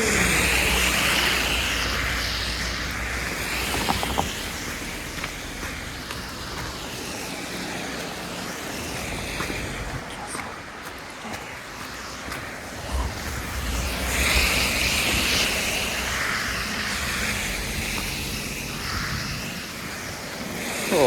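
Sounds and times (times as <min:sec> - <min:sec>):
car tyres hissing past: 0:00.0 - 0:10.4, 0:11.0 - 0:21.0
background traffic hiss: 0:00.0 - 0:21.0.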